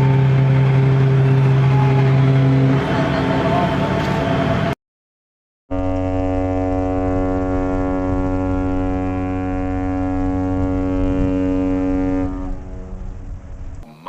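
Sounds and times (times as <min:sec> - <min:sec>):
ship's horn long blast: 0:00.0 - 0:04.8, 0:05.7 - 0:13.5.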